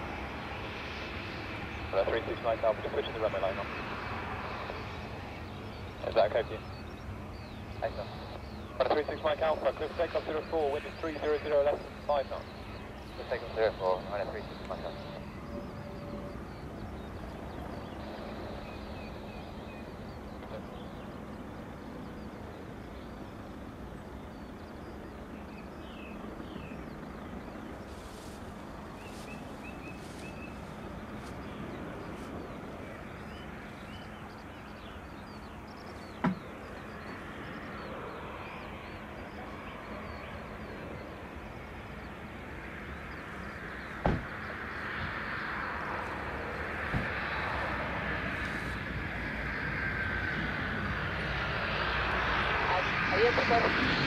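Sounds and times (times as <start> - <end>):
jet engines whining: 0.0 - 54.0
small birds chirping: 0.2 - 54.0.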